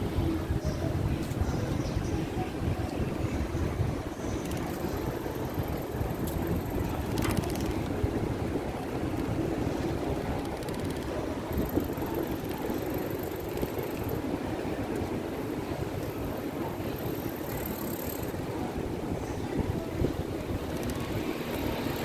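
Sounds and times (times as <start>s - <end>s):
bicycle rolling on paving: 2.4s - 22.0s.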